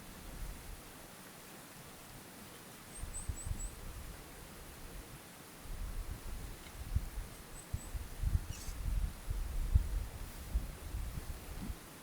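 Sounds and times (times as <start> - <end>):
faint forest ambience hiss: 0.0 - 12.0.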